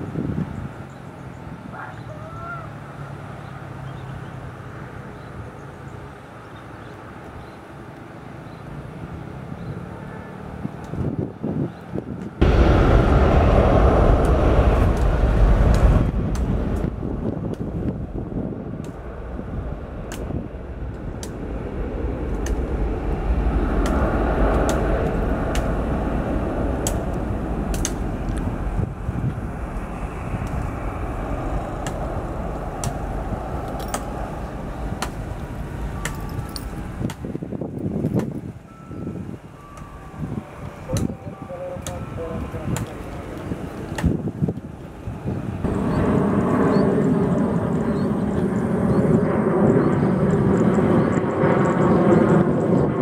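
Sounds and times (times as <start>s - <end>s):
wind on microphone: 0.0s - 1.8s, 10.6s - 53.0s
jet engines at takeoff power: 2.4s - 53.0s.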